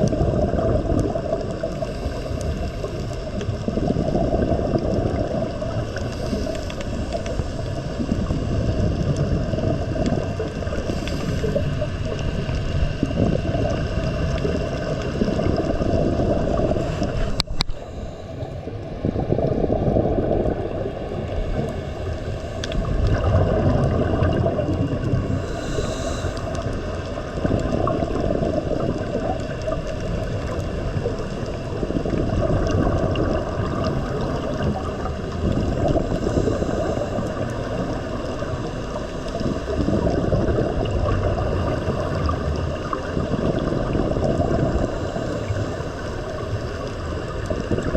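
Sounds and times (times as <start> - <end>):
muffled water rumble and gurgle: 0.0 - 47.9.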